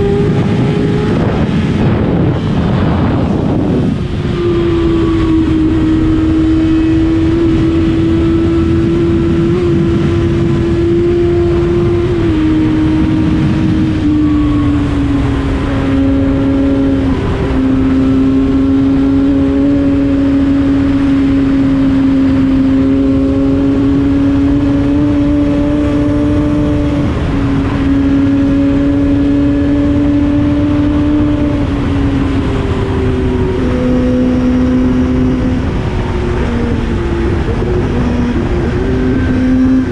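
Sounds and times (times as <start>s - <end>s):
motorcycle engine cruising: 0.0s - 39.9s
wind and road rumble: 0.0s - 39.9s.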